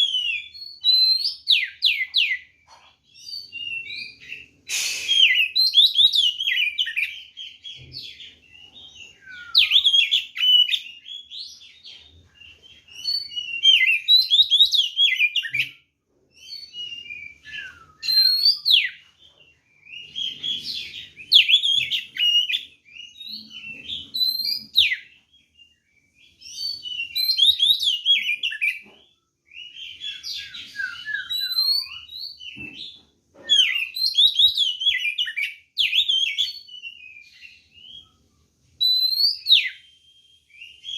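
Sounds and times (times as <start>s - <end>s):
bird singing whistled phrases: 0.0s - 15.8s, 16.4s - 19.0s, 19.7s - 28.8s, 29.5s - 32.6s, 33.5s - 40.9s.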